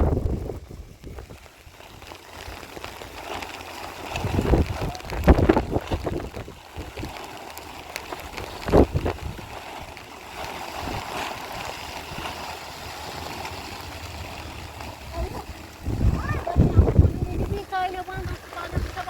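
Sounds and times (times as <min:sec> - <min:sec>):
running gurgling water: 0:00.0 - 0:19.0.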